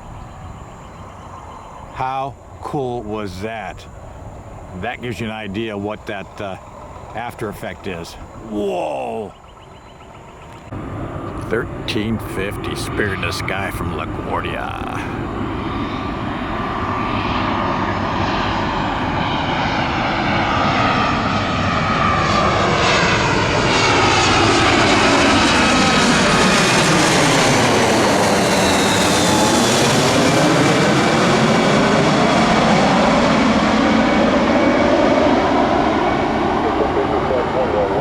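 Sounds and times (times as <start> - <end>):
jet airliner engine roar: 0.0 - 38.0.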